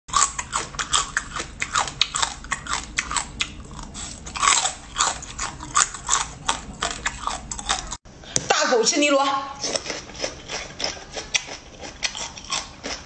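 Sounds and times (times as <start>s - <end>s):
crunching crab shells: 0.1s - 8.0s, 9.6s - 13.0s.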